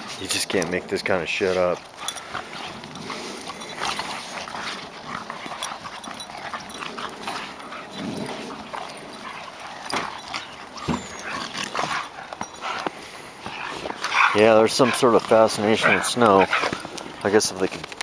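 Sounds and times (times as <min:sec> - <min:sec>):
dog noises: 0:00.0 - 0:18.0
dogs scuffing in snow: 0:00.0 - 0:18.0.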